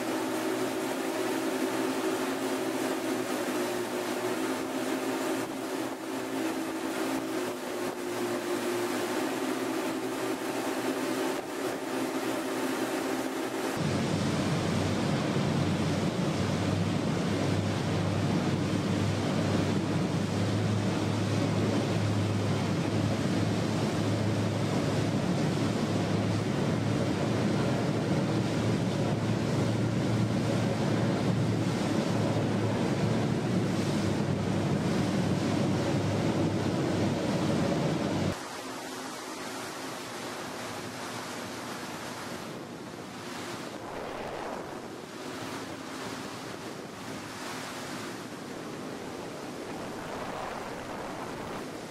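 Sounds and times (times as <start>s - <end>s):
boat engine drone: 0.0s - 51.9s
rush of water and wind: 0.0s - 51.9s.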